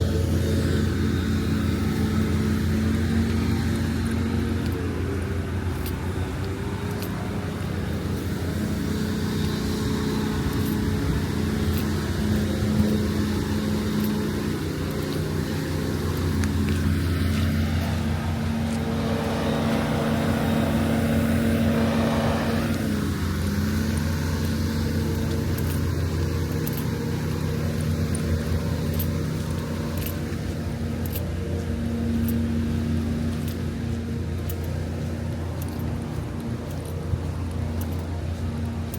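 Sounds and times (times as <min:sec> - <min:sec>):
engine humming: 0:00.0 - 0:38.9
vehicle passing by: 0:00.0 - 0:38.9.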